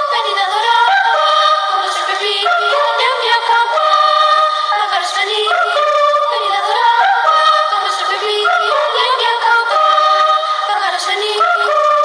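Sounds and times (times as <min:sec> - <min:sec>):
children's choir singing a carol: 0:00.0 - 0:12.0.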